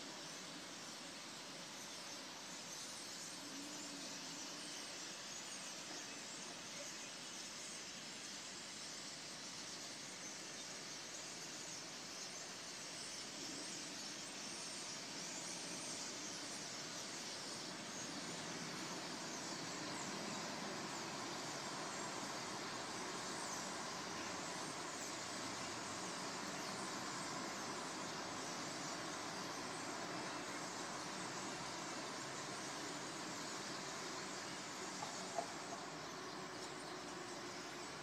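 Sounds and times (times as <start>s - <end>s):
outdoor ambient hiss: 0.0s - 38.0s.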